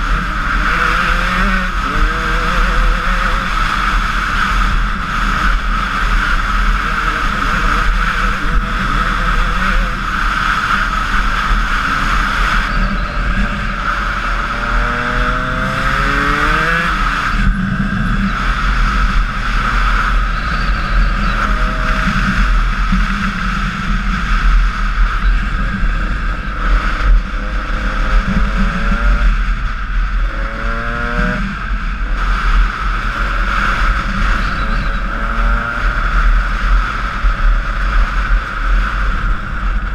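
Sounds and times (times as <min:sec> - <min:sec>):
dirt bike engine revving: 0:00.0 - 0:39.2.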